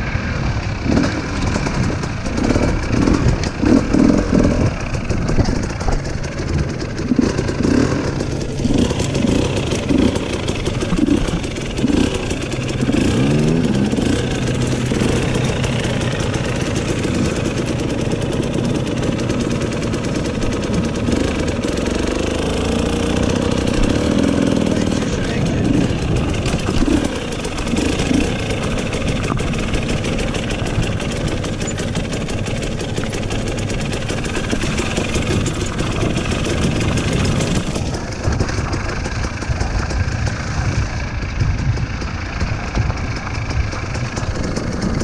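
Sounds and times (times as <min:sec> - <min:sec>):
dirt bike engine revving: 0:00.1 - 0:45.0.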